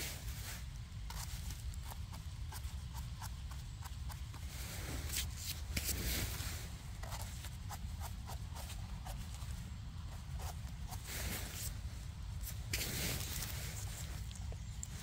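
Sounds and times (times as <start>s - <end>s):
rustling of dry leaves and twigs: 0.0s - 15.0s.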